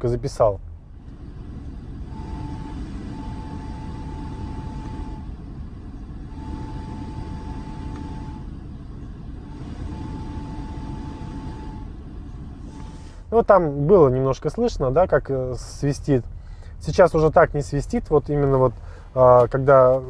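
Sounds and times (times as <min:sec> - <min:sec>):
car road and engine rumble: 0:00.0 - 0:20.0
heater fan whistling: 0:01.0 - 0:18.1.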